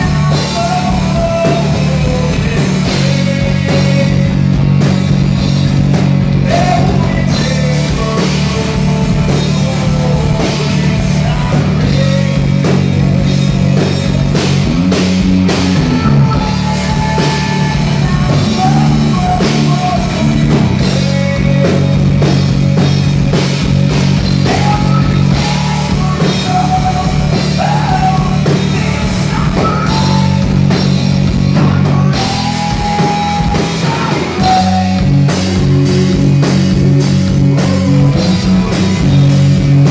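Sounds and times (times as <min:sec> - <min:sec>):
bass guitar: 0:00.0 - 0:39.9
drum kit: 0:00.0 - 0:39.9
electric guitars: 0:00.0 - 0:39.9
man singing lead vocals: 0:00.0 - 0:39.9.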